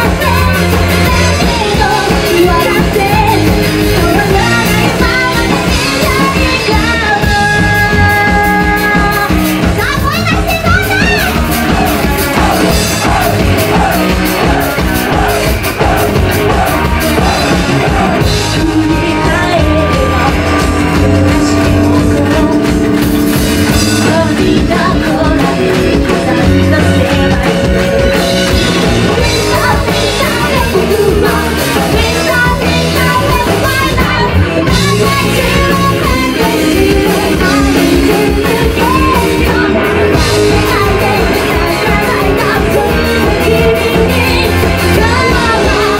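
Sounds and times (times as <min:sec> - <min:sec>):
woman singing: 0:00.0 - 0:16.5, 0:17.2 - 0:45.9
live rock band playing: 0:00.0 - 0:45.9.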